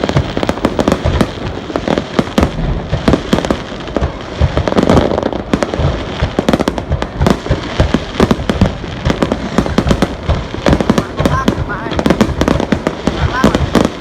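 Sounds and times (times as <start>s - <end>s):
crackle of bursts: 0.0s - 14.0s
fireworks exploding: 0.0s - 14.0s.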